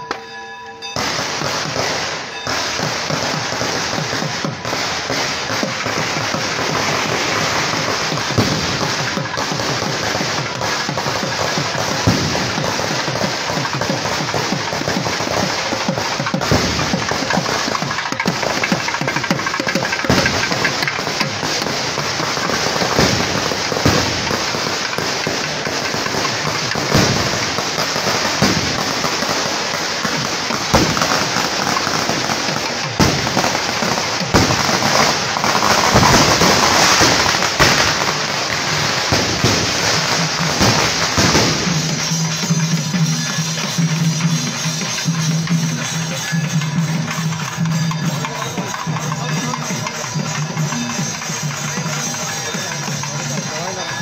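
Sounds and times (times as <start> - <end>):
firecrackers crackling: 0.0 - 54.0
loud firecracker bangs: 0.0 - 54.0.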